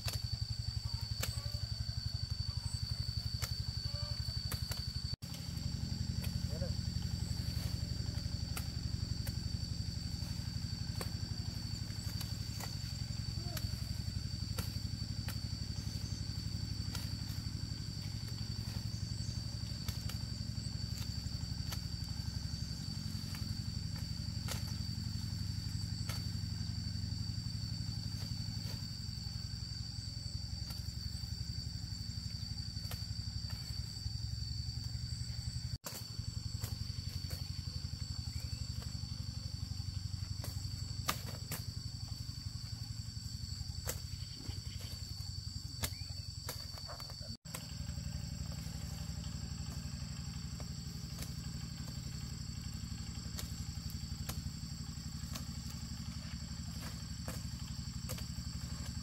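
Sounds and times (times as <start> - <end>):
motor engine running: 0.0 - 59.0.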